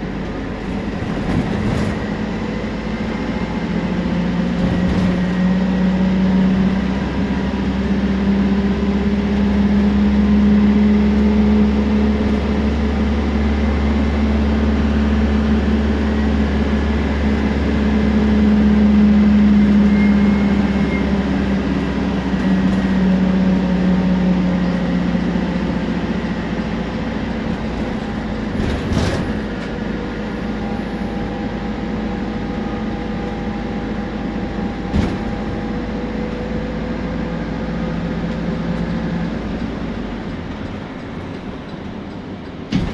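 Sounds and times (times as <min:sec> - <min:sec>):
bus diesel engine drone: 0:00.0 - 0:42.9.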